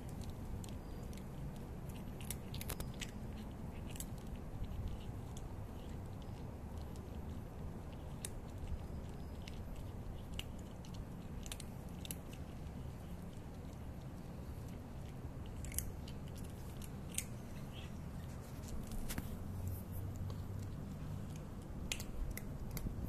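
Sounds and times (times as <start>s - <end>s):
cat crunching dry kibble: 0.0s - 23.0s.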